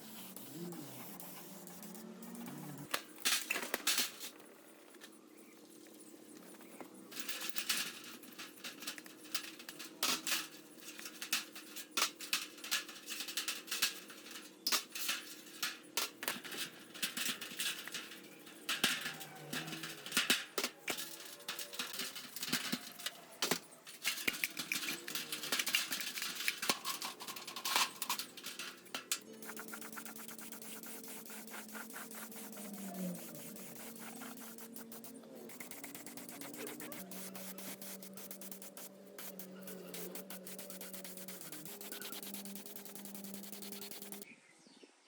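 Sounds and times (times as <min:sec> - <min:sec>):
small hard objects clicking: 0:07.2 - 0:44.2.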